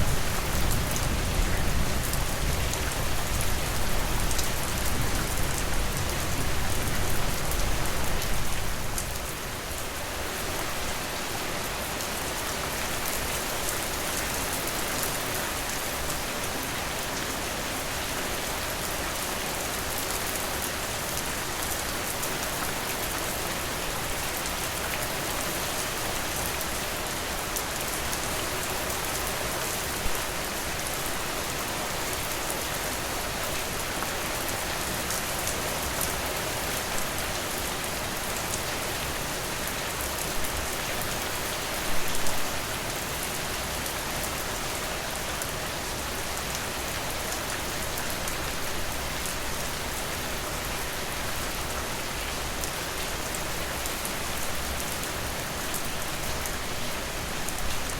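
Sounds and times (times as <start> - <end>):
rain pattering: 0.0 - 10.8, 17.9 - 57.9.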